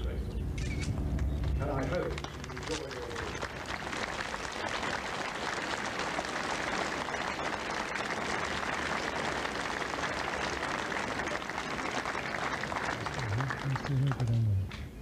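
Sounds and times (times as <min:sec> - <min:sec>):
crowd applauding: 0:01.2 - 0:14.6.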